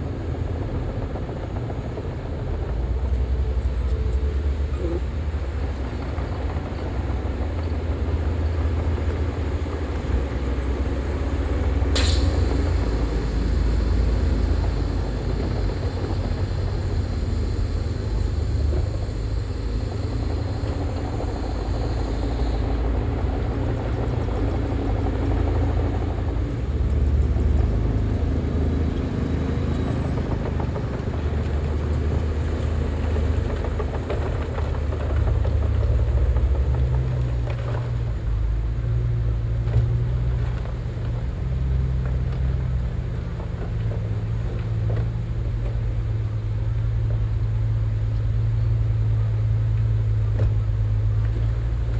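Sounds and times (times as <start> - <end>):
heavy machinery engine rumble: 0.0 - 51.9.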